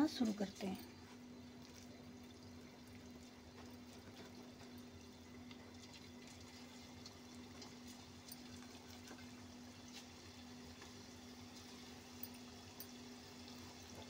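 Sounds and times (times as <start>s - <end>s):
batter sizzling in hot oil: 0.0s - 14.0s.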